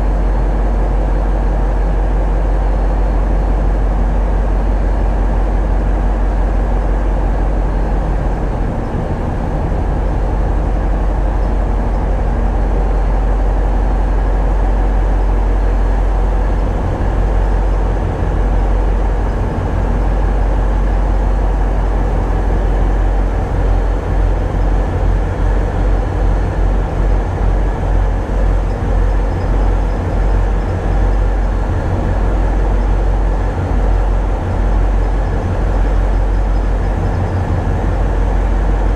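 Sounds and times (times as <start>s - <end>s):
diesel engines rumbling: 0.0s - 38.9s.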